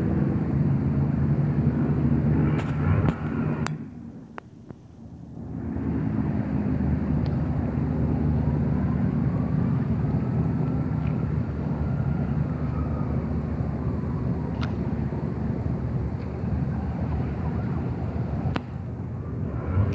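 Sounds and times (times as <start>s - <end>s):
distant traffic rumble: 0.0s - 19.9s.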